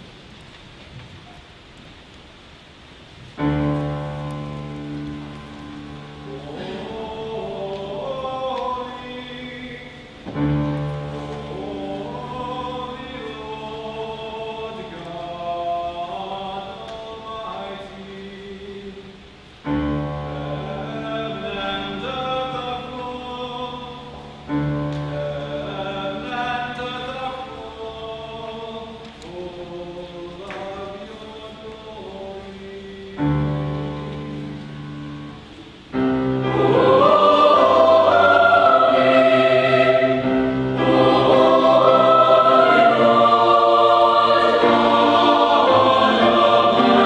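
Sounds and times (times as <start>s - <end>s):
choir singing in parts: 3.4s - 47.0s.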